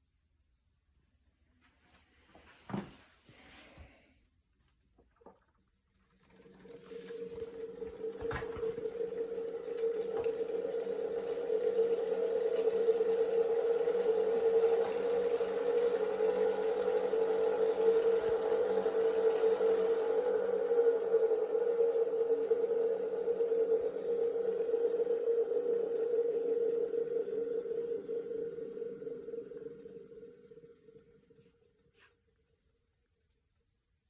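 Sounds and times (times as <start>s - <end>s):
bike trainer humming and rumbling: 5.2s - 33.0s.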